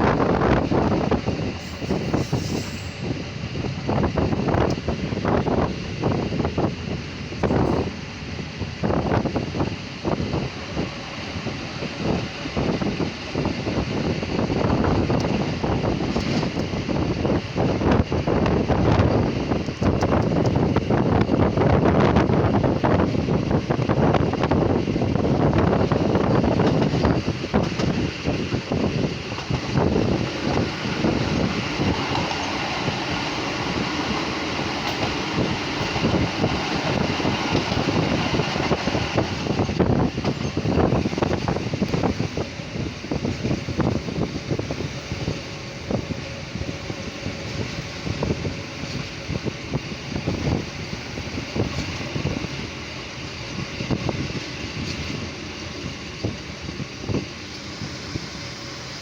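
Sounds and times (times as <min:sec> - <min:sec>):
railcar rumble and rattle: 0:00.0 - 0:59.0.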